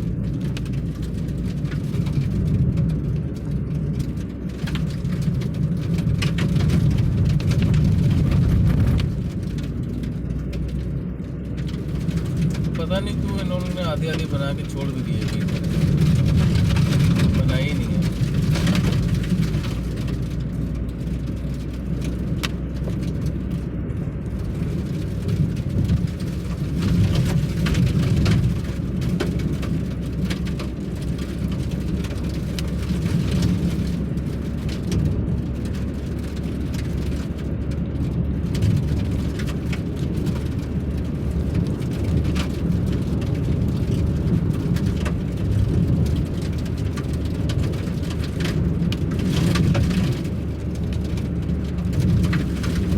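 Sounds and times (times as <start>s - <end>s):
vehicle road and engine noise: 0.0s - 52.9s.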